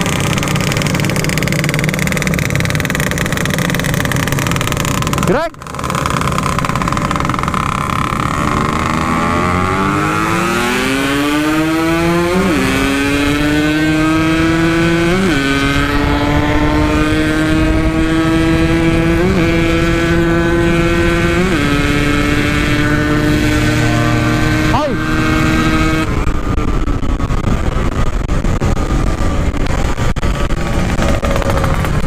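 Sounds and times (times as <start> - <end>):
two-stroke motorcycle accelerating: 0.0 - 32.0.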